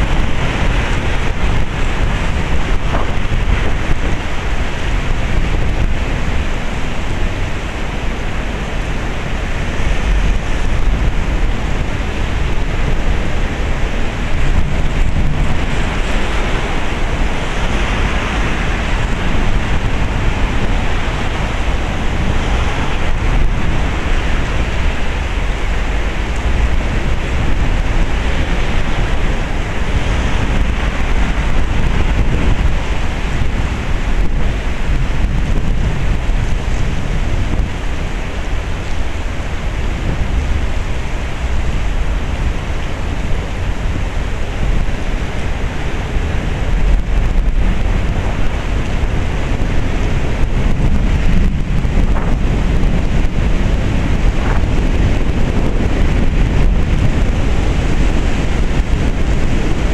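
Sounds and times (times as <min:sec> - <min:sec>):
heavy rain pouring: 0:00.0 - 0:59.9
wind rumbling on microphone: 0:00.0 - 0:59.9.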